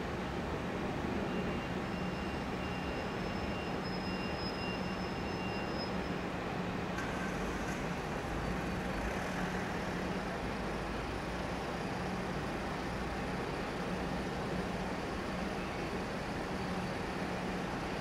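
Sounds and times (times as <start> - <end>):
diesel locomotive engine hum: 0.0 - 18.0.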